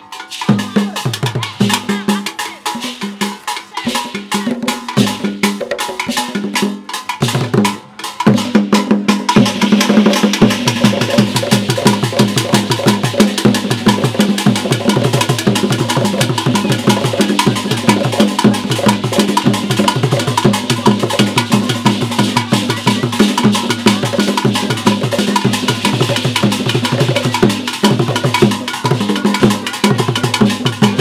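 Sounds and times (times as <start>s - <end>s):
hand drum ensemble: 0.0s - 31.0s.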